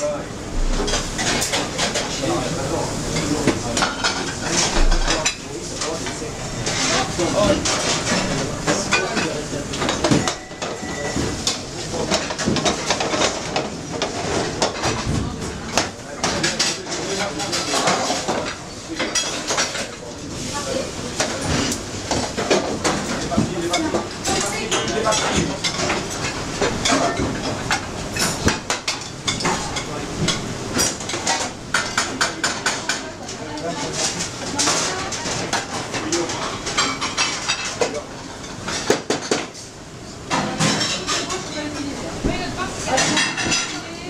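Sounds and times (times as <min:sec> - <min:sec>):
pots and pans clinking: 0:00.0 - 0:20.1, 0:20.7 - 0:39.7, 0:40.3 - 0:44.0.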